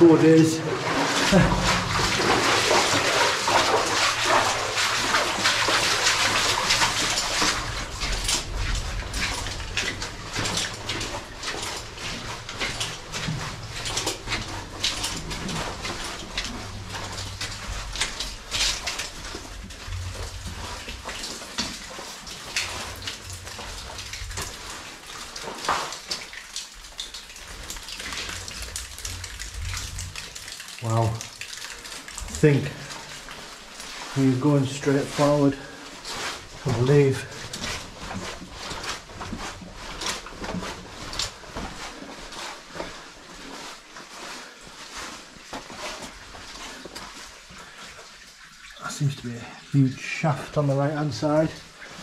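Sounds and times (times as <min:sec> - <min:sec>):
water dripping and splashing: 0:00.0 - 0:52.0
footsteps walking: 0:00.8 - 0:30.8, 0:31.4 - 0:48.8.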